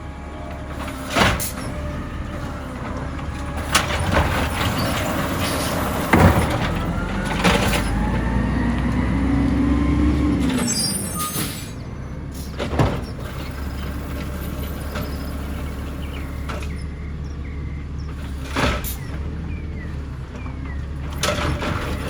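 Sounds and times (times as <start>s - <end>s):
garbage truck engine: 0.0s - 22.0s.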